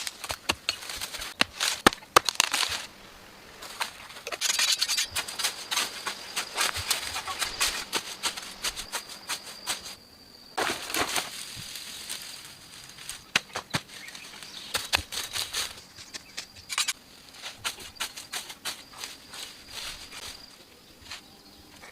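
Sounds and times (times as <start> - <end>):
crackling and rustling: 0.0 - 3.0, 3.6 - 10.0, 10.6 - 21.9.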